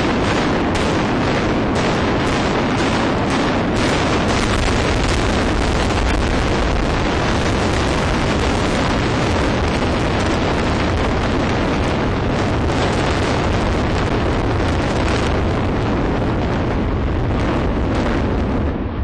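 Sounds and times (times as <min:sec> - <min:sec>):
building collapsing rumble: 0:00.0 - 0:19.0
wind on microphone: 0:00.0 - 0:19.0.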